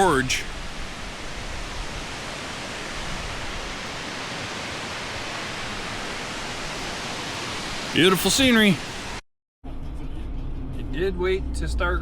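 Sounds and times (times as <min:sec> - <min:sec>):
road and wind noise driving: 0:00.0 - 0:12.0.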